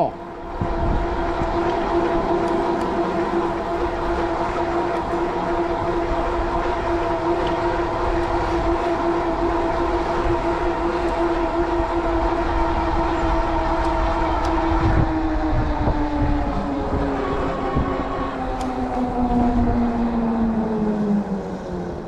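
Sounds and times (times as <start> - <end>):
electric bike motor whine: 0.0 - 22.0
wind rumbling on microphone: 0.0 - 22.0.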